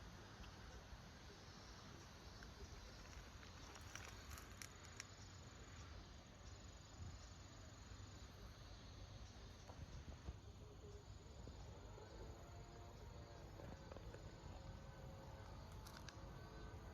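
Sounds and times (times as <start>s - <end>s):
high insect-like tone: 0.4s - 16.9s.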